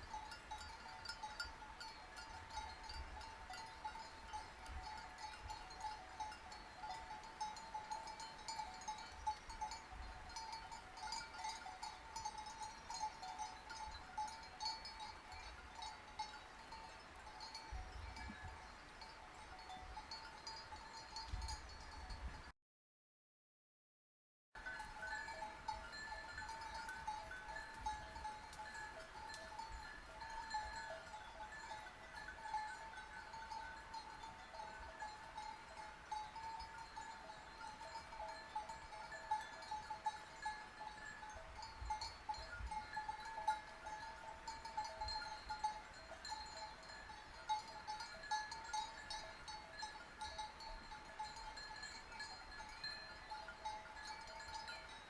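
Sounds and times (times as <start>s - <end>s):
sheep bells clanking: 0.0s - 22.4s, 24.6s - 55.0s.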